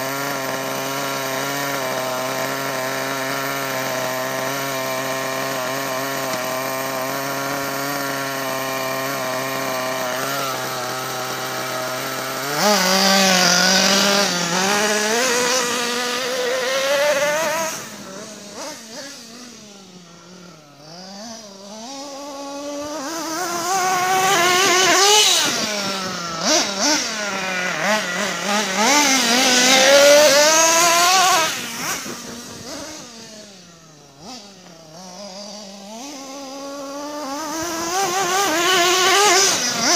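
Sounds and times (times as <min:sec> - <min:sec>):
model truck engine revving: 0:00.0 - 0:39.9.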